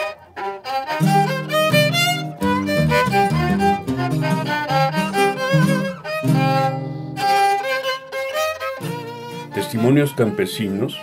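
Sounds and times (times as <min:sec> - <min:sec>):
violin melody: 0:00.0 - 0:11.0
sustained low strings: 0:00.4 - 0:11.0.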